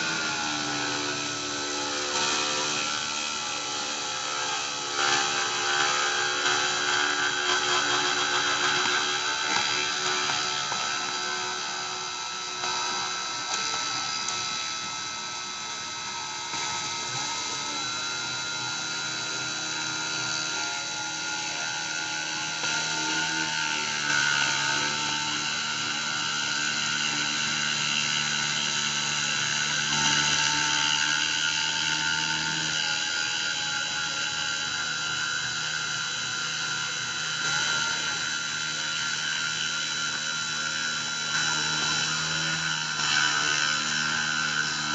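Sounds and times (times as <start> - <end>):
rotary tool high-pitched whine: 0.0 - 44.9.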